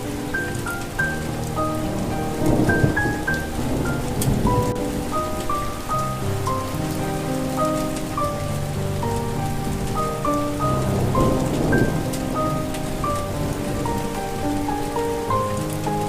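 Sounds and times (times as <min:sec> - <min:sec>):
slow melody of sustained notes: 0:00.0 - 0:16.0
steady rain falling: 0:00.0 - 0:16.0
thunder rumble: 0:00.0 - 0:16.0.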